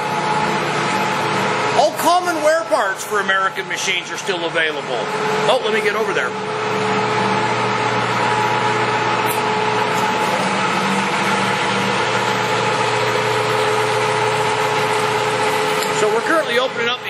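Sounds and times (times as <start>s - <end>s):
lathe machine hum with whining tones: 0.0s - 17.0s.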